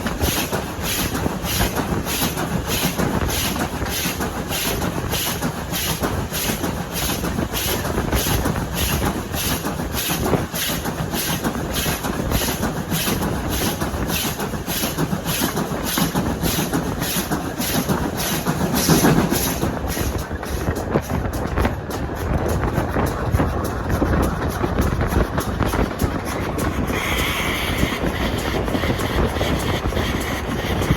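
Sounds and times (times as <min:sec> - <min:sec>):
train running rhythmically: 0:00.0 - 0:30.9.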